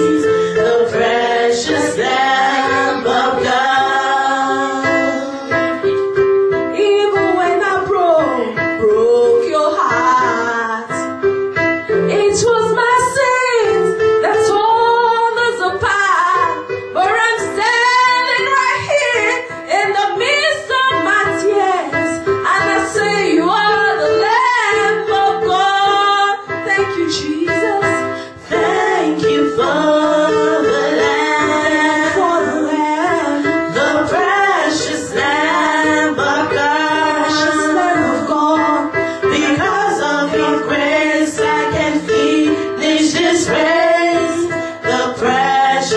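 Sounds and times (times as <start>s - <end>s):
instrumental accompaniment: 0.0s - 45.9s
woman singing: 6.8s - 11.0s, 12.1s - 45.9s.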